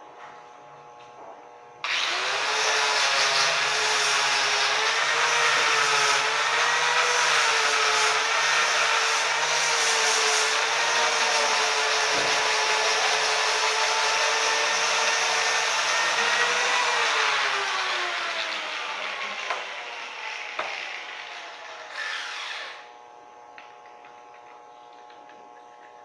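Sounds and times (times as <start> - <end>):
angle grinder motor whine: 0.0 - 26.0.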